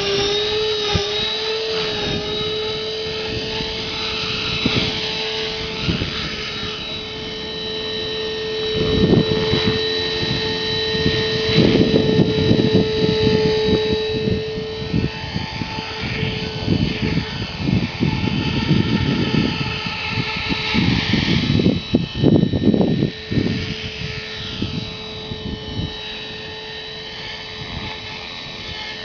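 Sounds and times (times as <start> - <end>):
rc helicopter motor whine: 0.0 - 29.0
wind buffeting microphone: 0.0 - 29.0.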